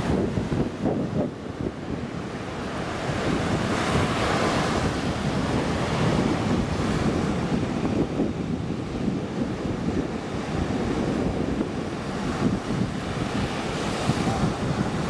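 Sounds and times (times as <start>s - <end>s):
ocean surf on beach: 0.0s - 15.0s
wave breaking: 0.0s - 15.0s
wind buffeting microphone: 0.0s - 15.0s.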